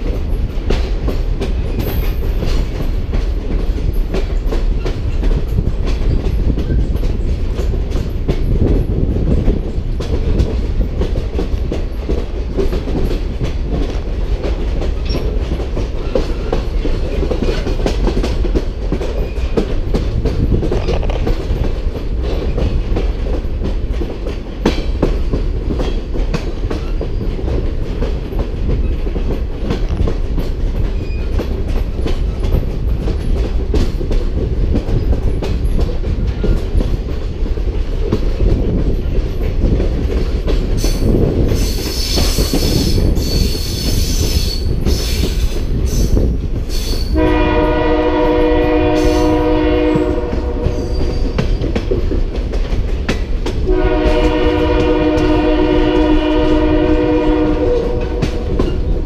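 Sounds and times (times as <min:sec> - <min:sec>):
wheels clacking over rail joints: 0:00.0 - 0:57.2, 0:57.8 - 0:59.0
train rumbling on track: 0:00.0 - 0:59.0.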